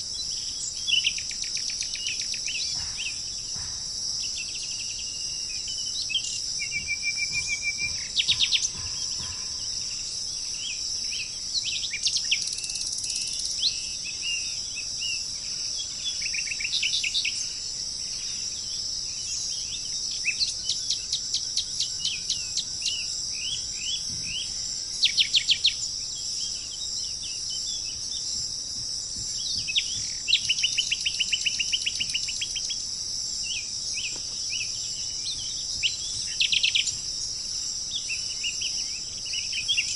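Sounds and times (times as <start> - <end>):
insect chorus: 0.0 - 39.9
songbirds singing: 0.0 - 39.9.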